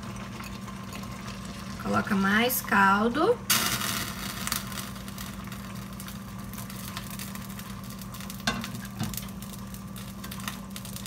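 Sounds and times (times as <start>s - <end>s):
risotto simmering and crackling: 0.0s - 2.6s, 3.5s - 11.0s
low steady hum: 0.0s - 11.0s.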